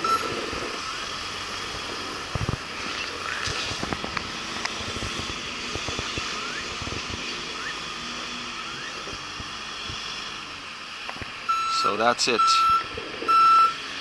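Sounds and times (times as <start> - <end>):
loader engine running: 0.0 - 14.0.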